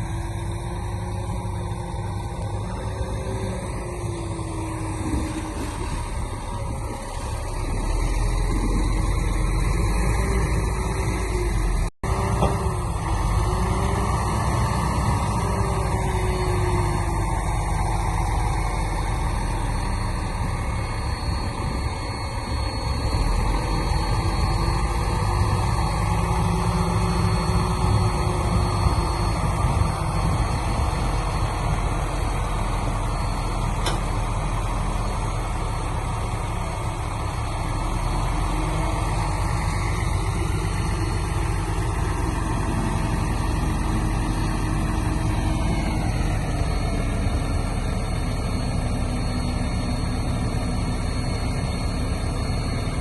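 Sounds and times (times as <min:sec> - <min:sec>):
diesel machinery engine running: 0:00.0 - 0:53.0.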